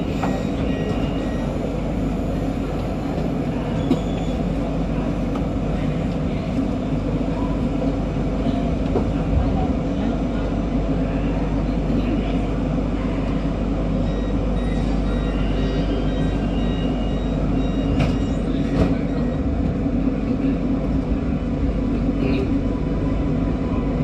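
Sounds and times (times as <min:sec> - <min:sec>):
metro train rumbling: 0:00.0 - 0:24.0.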